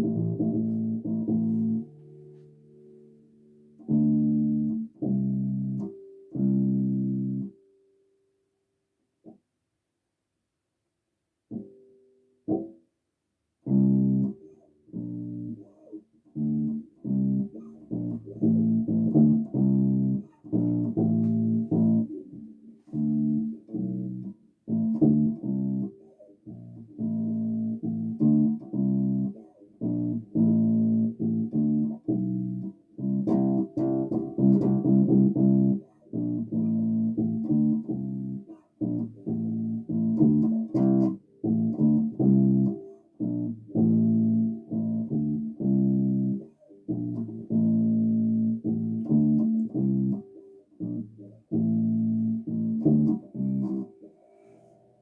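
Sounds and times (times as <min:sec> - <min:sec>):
bass guitar plucked notes: 0:00.0 - 0:03.0, 0:03.8 - 0:07.6, 0:13.6 - 0:15.7, 0:16.3 - 0:54.0.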